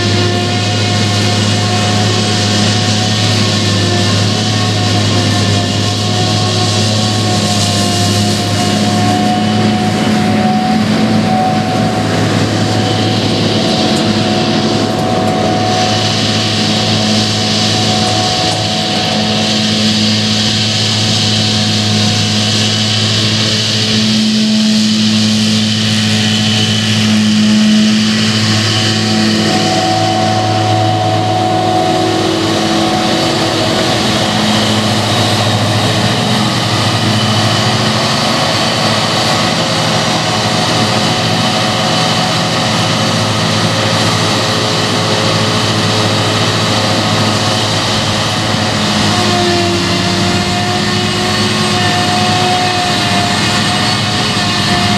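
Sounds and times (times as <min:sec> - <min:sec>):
forage harvester engine drone: 0:00.0 - 0:54.9.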